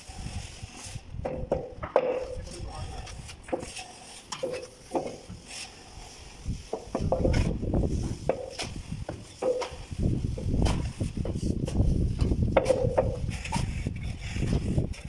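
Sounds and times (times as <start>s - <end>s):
rule scraping over wet plaster: 0.0s - 15.0s.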